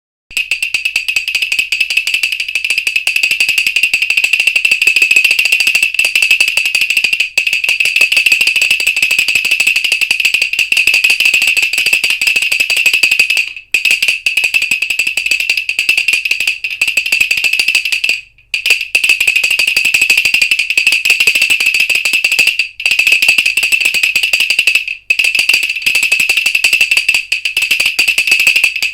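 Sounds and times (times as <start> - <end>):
wooden rattle shaken: 0.3 - 28.9.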